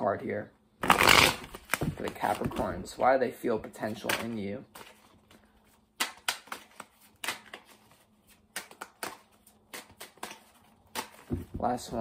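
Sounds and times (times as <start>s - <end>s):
cards being shuffled: 0.8s - 3.0s, 3.8s - 12.0s.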